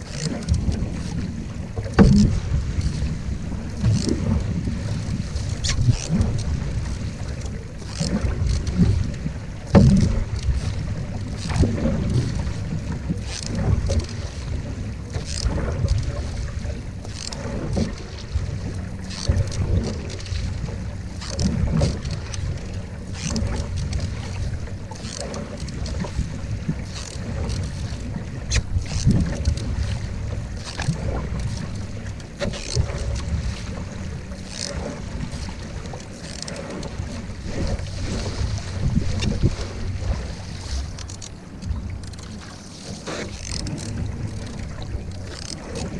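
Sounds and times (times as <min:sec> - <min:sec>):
wind buffeting microphone: 0:00.0 - 0:42.3
canoe paddle strokes: 0:00.0 - 0:45.9
water washing along hull: 0:00.0 - 0:45.9.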